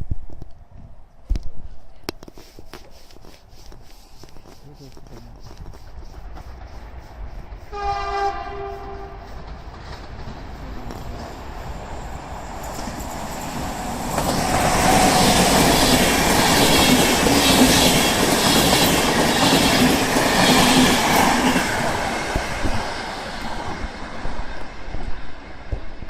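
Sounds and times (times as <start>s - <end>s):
passenger train rumbling: 4.5s - 26.0s.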